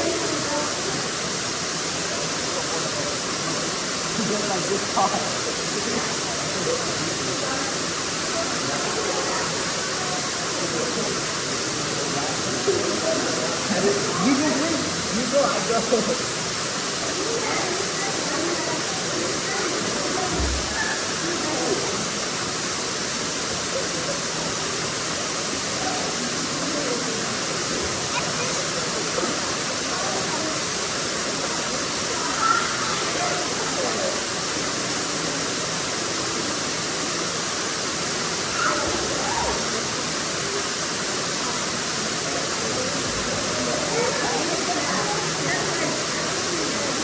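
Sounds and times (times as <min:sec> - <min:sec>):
faint voices: 0:00.0 - 0:47.0
water pouring over waterfall: 0:00.0 - 0:47.0.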